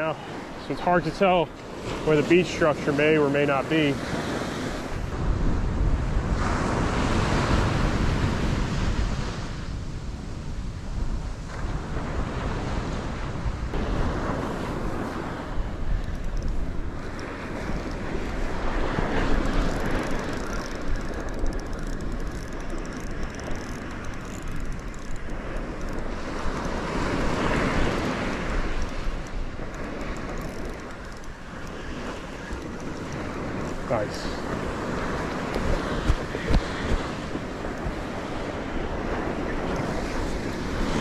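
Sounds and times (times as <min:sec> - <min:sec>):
surf washing up beach: 0:00.0 - 0:41.0
wind buffeting microphone: 0:00.0 - 0:41.0.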